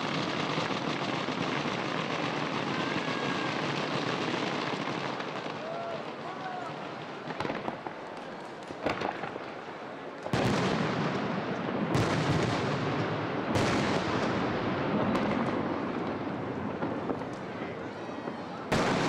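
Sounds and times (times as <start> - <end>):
fireworks crackling and rumble: 0.0 - 19.0.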